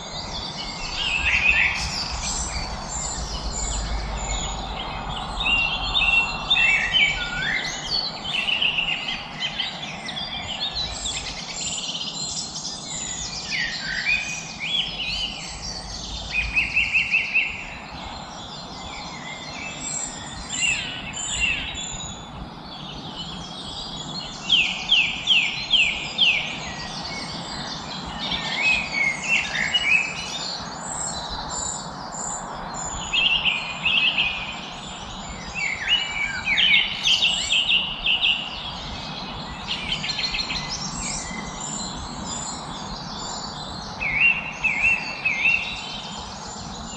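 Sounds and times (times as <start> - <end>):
songbirds singing and chirping: 0.0 - 46.9
steady background hiss: 0.0 - 46.9.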